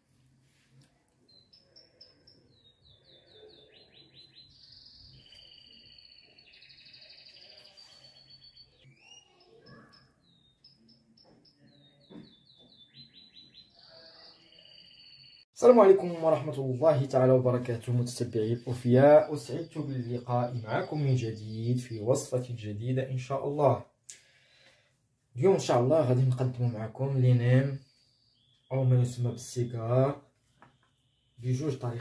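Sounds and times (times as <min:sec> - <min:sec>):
faint bird chirps and trills: 0:00.9 - 0:23.6, 0:25.4 - 0:32.0.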